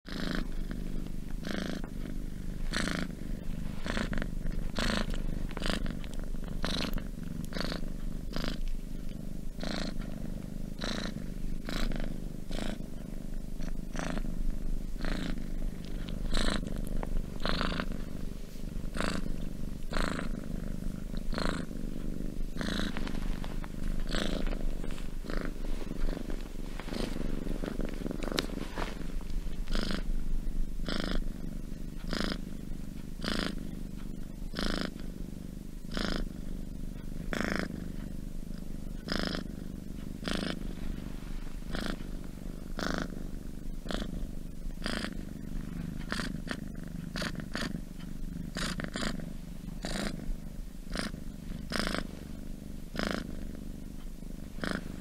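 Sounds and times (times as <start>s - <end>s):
cat purring: 0.0s - 55.0s
breathy hiss: 0.1s - 55.0s.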